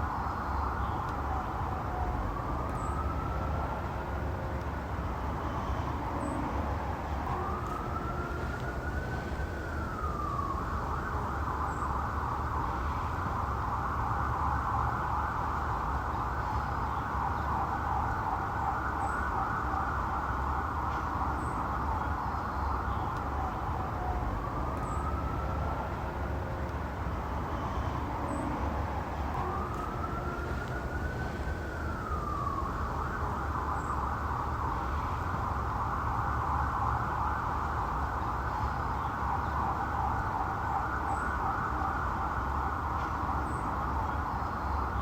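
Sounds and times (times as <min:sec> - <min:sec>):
police siren wailing and yelping: 0:05.8 - 0:45.0.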